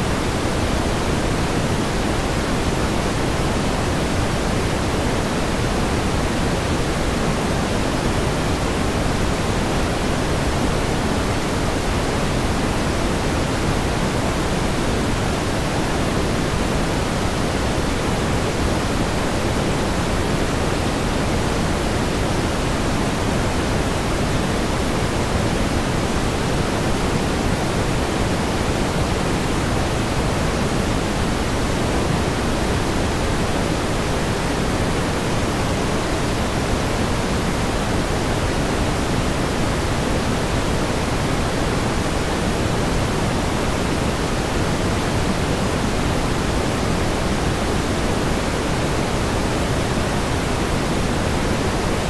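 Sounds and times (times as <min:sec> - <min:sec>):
pink noise hiss: 0:00.0 - 0:52.0.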